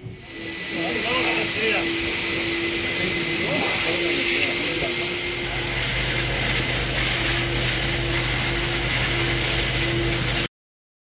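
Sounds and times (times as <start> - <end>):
motor drone with high whine: 0.0 - 10.5.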